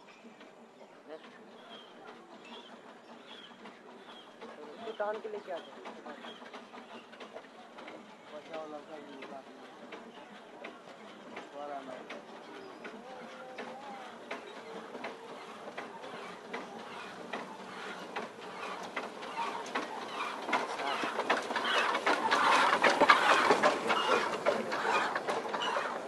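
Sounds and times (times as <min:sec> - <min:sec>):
steam locomotive clanking past: 0:00.0 - 0:26.0.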